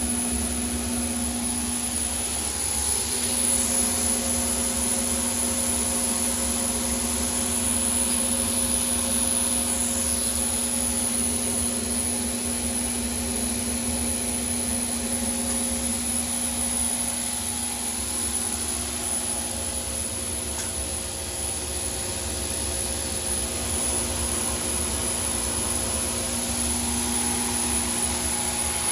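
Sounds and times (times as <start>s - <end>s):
turbine humming with high whine: 0.0s - 28.9s.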